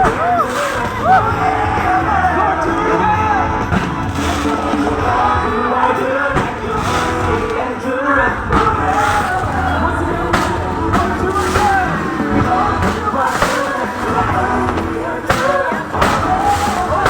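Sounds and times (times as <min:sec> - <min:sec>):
crowd voices: 0:00.0 - 0:17.0
loud music with singing: 0:00.0 - 0:17.0.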